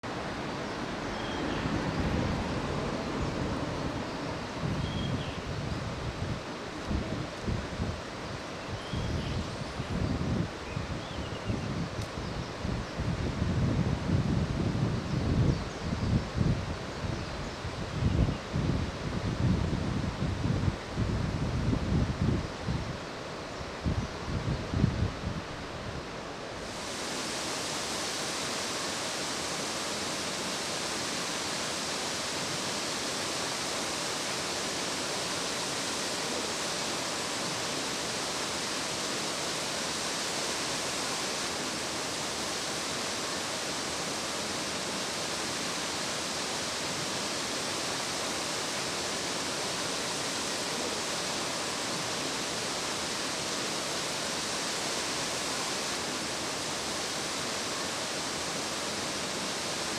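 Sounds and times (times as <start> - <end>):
waterfall rushing: 0.0 - 17.9, 18.5 - 59.9.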